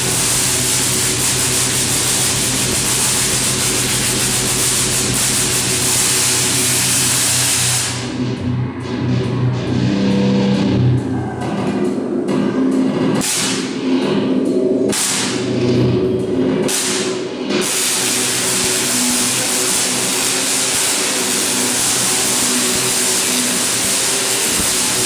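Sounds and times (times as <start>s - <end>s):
tesla coil buzzing: 0.0s - 11.1s, 11.8s - 25.0s
music with pitched notes: 0.0s - 25.0s.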